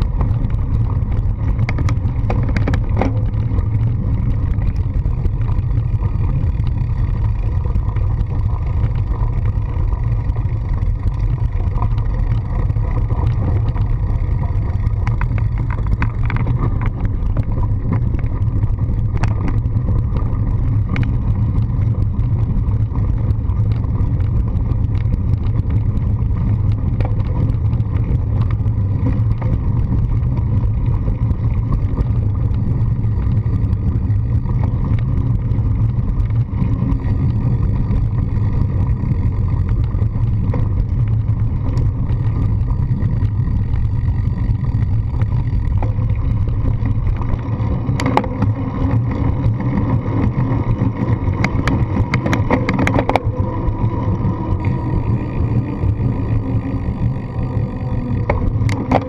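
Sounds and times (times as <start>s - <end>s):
small clicks and rattles: 0.0s - 59.0s
tyre and handlebar vibration: 0.0s - 59.0s
wind on camera: 0.0s - 59.0s.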